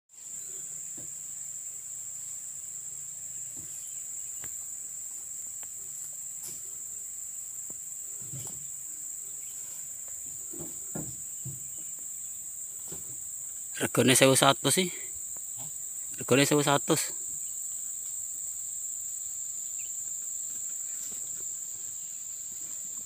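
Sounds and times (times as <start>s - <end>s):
insects droning: 0.1s - 23.0s.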